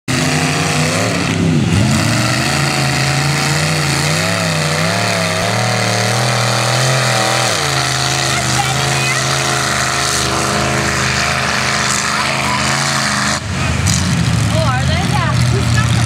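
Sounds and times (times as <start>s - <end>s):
vee eight engine under hard throttle: 0.0s - 16.0s.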